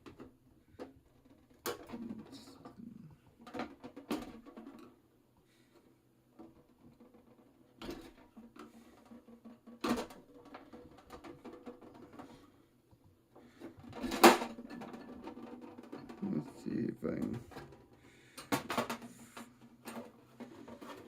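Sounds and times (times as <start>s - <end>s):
clicks and knocks of plastic gearbox: 0.0s - 5.0s, 5.8s - 12.6s, 13.5s - 16.2s, 17.1s - 21.0s.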